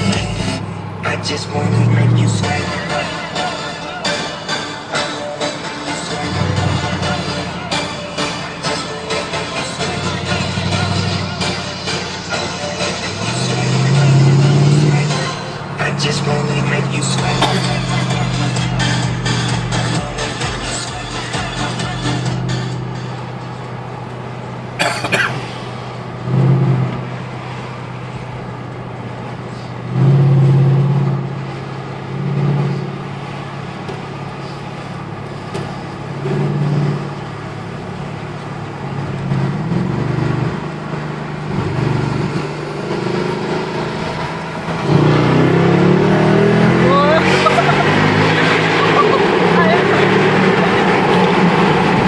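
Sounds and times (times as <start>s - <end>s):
car engine revving in a tunnel: 0.0s - 52.0s.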